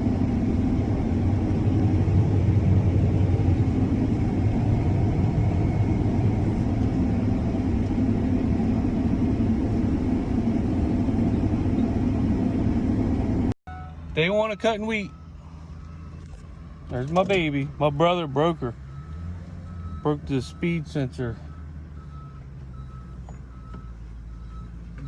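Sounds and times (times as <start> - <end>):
combine harvester rumbling: 0.0 - 25.0.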